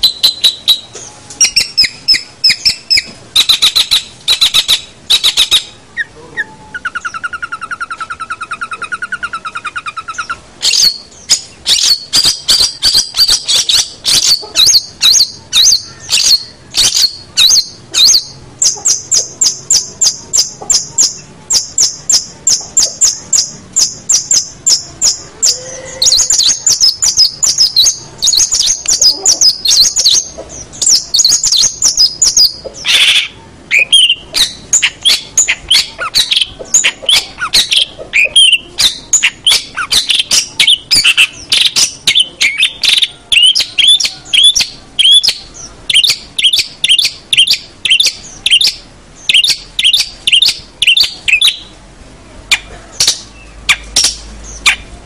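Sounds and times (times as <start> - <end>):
bird singing rapid sharp notes: 0.0 - 51.8.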